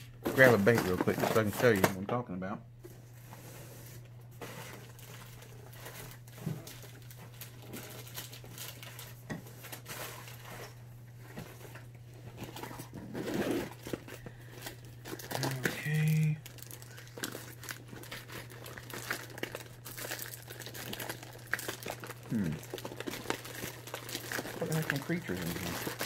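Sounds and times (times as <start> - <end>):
packaging rustling: 0.2 - 2.0, 2.9 - 26.0.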